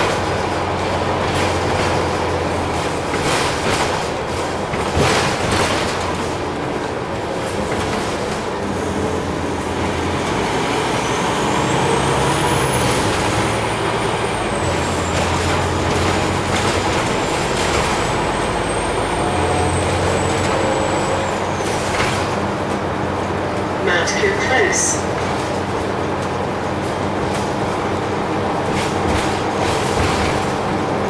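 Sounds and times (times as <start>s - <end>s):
bus engine drone: 0.0s - 31.0s.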